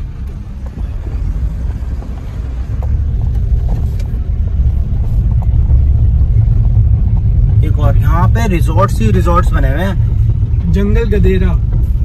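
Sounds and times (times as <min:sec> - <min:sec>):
car rumbling over dirt road: 0:00.0 - 0:12.0.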